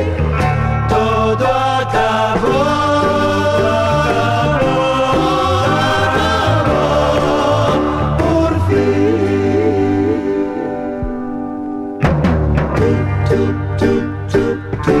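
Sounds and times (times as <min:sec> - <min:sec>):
pop song with band and singing: 0:00.0 - 0:11.5, 0:12.8 - 0:15.0.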